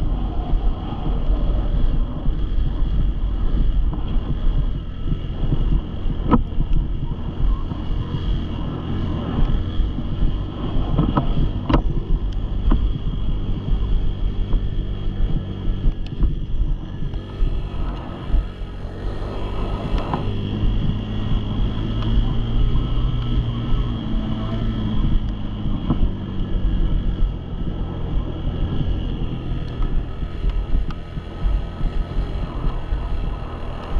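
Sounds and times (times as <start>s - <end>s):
dirt bike engine running: 0.0s - 33.9s
wind buffeting microphone: 0.0s - 33.9s.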